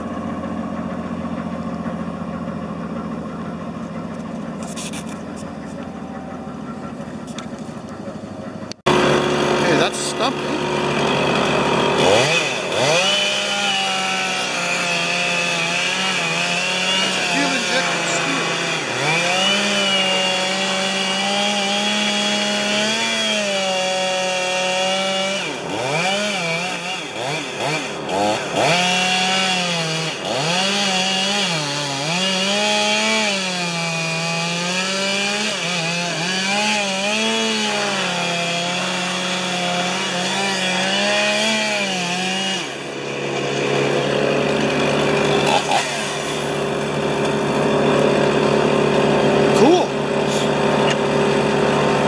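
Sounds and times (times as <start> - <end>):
chainsaw cutting wood: 0.0 - 5.9, 8.7 - 52.0.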